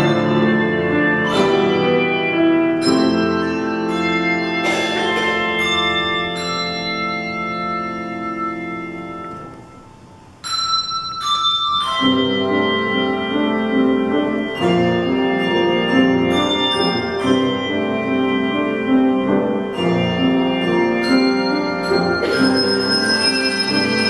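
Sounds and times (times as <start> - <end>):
handbell choir ringing a hymn: 0.0 - 9.5, 10.4 - 24.0.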